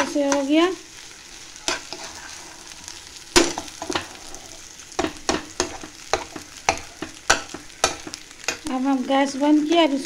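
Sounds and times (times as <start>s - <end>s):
metal spatula scraping a pan: 0.0s - 8.7s
faint sizzle: 0.0s - 10.0s.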